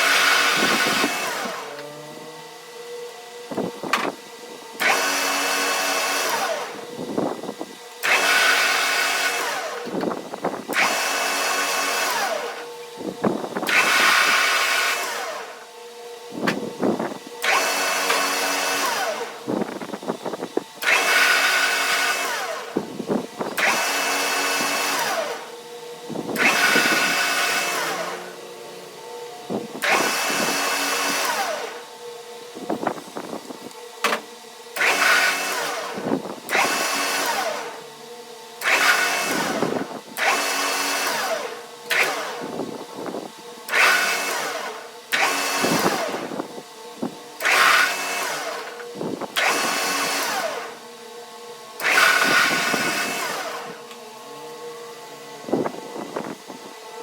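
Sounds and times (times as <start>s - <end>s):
power tool running in bursts: 0.0s - 57.0s.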